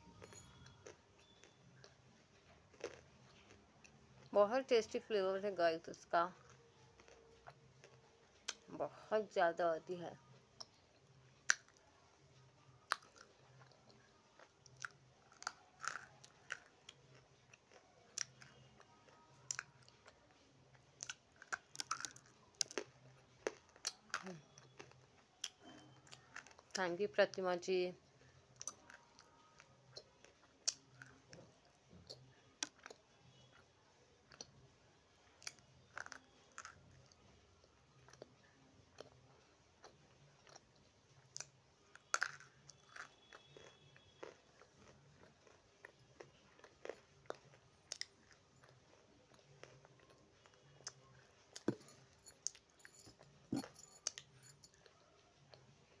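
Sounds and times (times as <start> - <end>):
crunching of chewing dry clay: 0.1 - 4.3, 6.4 - 8.7, 12.8 - 26.8, 28.2 - 34.6, 35.2 - 56.0.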